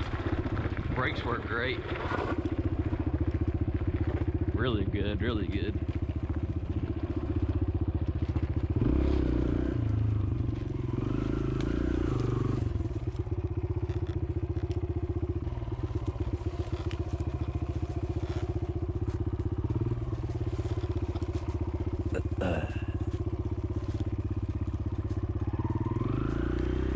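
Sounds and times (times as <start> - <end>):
motorbike engine revving: 0.0 - 26.9.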